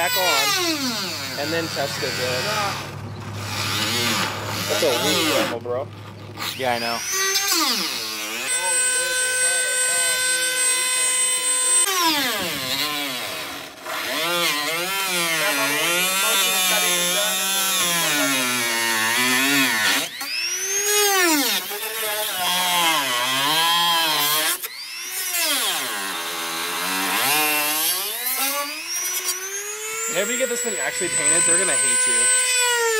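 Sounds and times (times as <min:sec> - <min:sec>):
rotary tool cutting plastic: 0:00.0 - 0:32.9.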